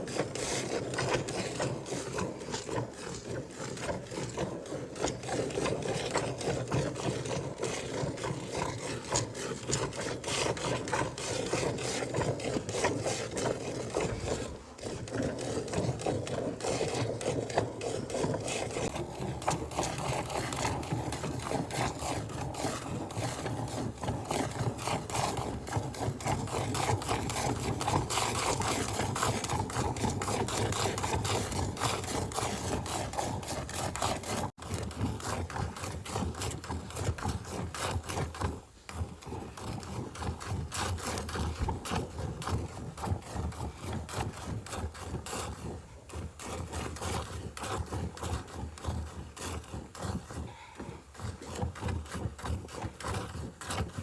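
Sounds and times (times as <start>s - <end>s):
milk squirting into a pail: 0.0s - 54.0s.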